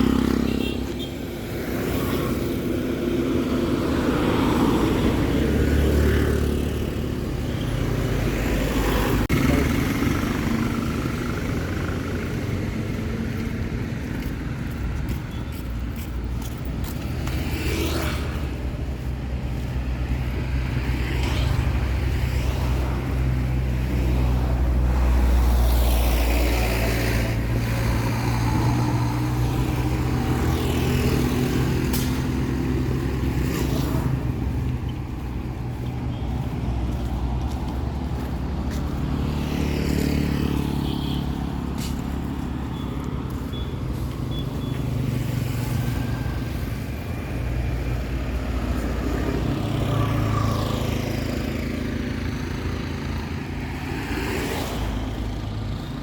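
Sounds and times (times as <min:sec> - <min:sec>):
vehicle engines running: 0:00.0 - 0:56.0
vehicles passing close by: 0:00.0 - 0:56.0.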